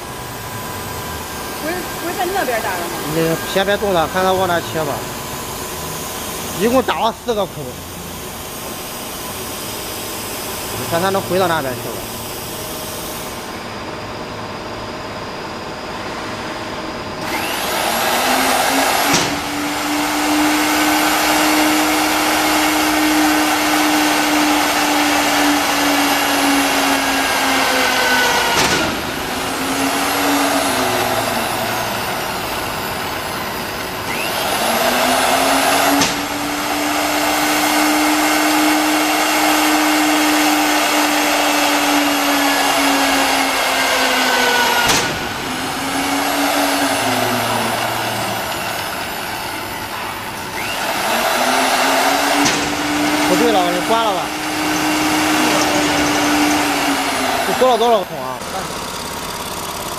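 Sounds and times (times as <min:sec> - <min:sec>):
spindle motor whine: 0:00.0 - 0:59.9.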